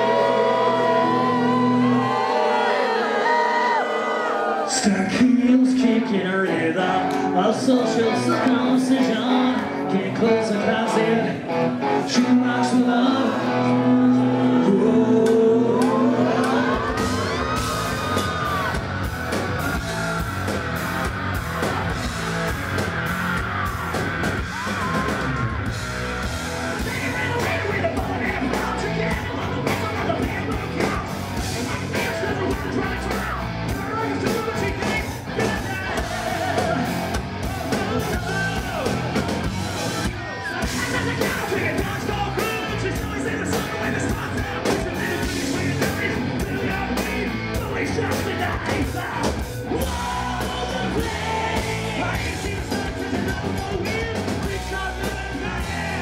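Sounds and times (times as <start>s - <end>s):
singer yelling and singing: 0.0s - 56.0s
hard rock band playing live: 4.9s - 56.0s.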